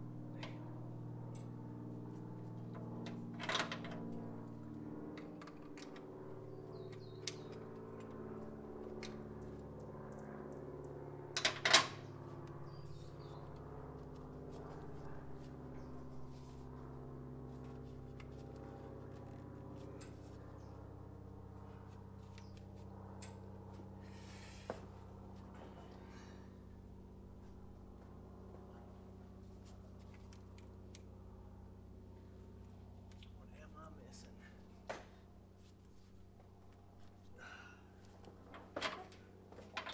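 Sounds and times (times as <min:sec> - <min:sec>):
low hum: 0:00.0 - 0:39.9.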